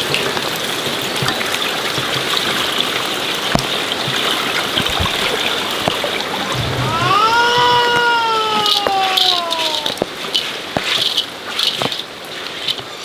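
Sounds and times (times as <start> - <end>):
small drips and clicks: 0.0 - 6.4, 8.7 - 13.0
rush of water: 0.0 - 13.0.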